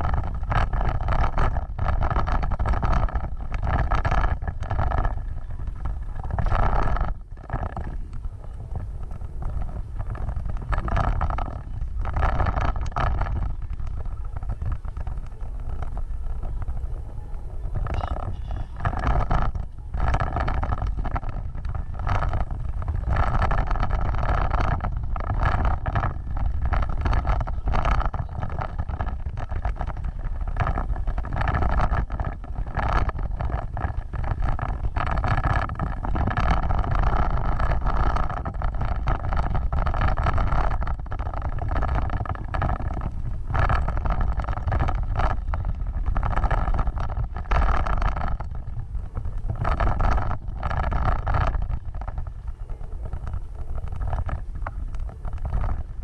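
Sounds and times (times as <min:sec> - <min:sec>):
off-road vehicle engine: 0:00.0 - 0:56.0.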